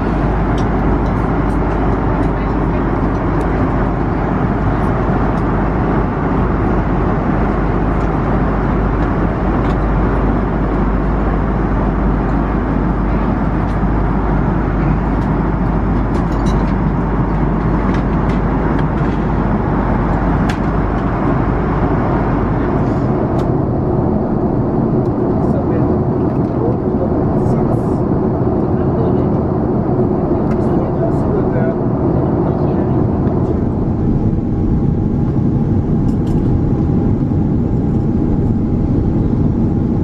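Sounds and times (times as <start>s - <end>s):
airplane cabin engine rush: 0.0s - 40.0s.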